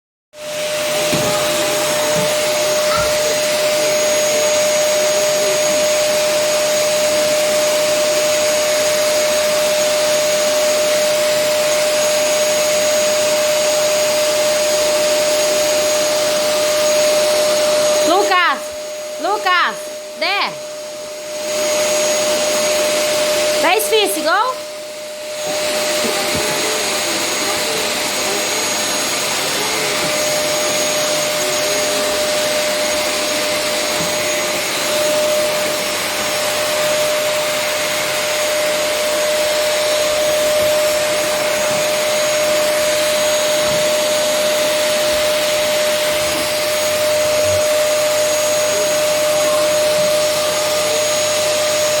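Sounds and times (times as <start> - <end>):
vacuum cleaner running: 0.3 - 52.0.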